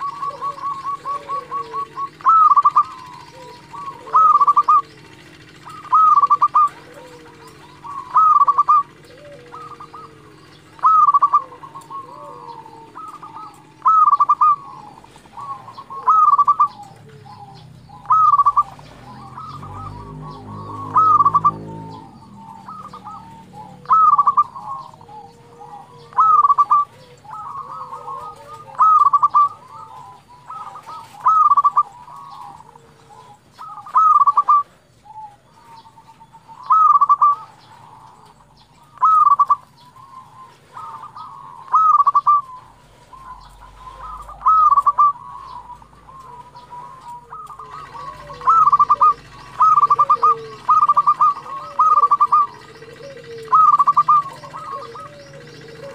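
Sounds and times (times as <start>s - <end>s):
dove staccato cooing: 0.0s - 55.9s
faint bird calls: 0.0s - 55.9s.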